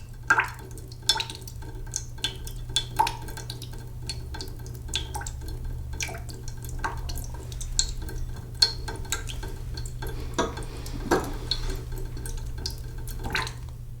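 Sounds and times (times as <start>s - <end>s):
tap water running into metal pot: 0.0s - 13.7s
water drips and splashes: 0.0s - 13.7s
water gurgles: 0.1s - 13.6s.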